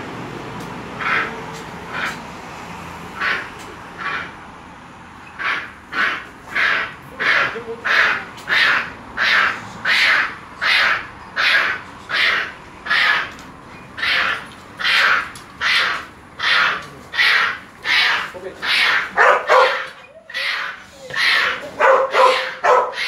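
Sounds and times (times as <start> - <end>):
animal harsh call: 1.0 - 2.2, 3.2 - 4.4, 5.3 - 13.4, 14.0 - 23.0.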